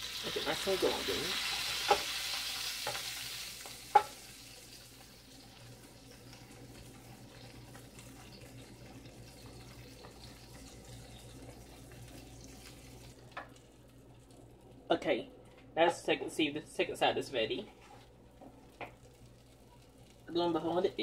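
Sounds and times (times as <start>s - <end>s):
butter sizzling in a skillet: 0.0s - 14.4s, 17.6s - 21.0s.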